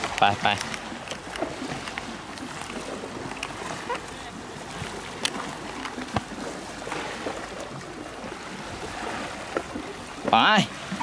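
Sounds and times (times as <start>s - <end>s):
sea surf on rocky shore: 0.0s - 11.0s.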